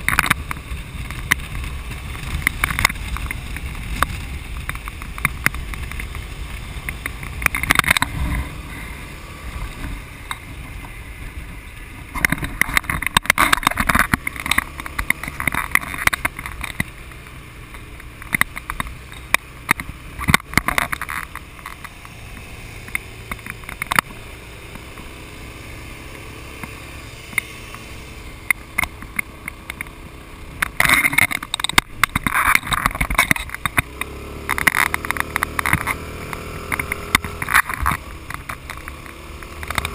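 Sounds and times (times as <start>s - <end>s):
motorcycle engine and road rumble: 0.0s - 39.9s.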